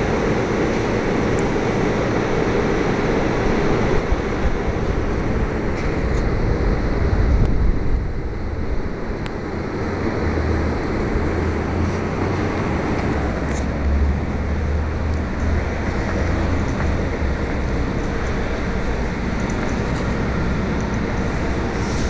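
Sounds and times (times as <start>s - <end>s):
microphone rumble and hiss: 0.0s - 22.0s.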